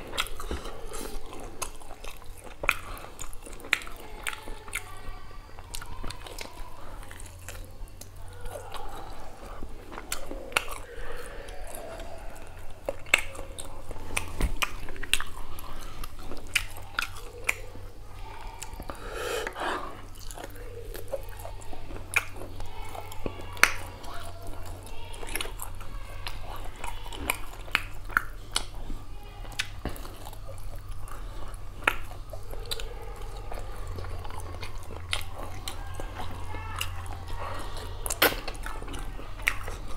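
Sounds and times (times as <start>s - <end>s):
chewing and lip-smacking: 0.0s - 39.9s
steady low hum: 0.0s - 39.9s.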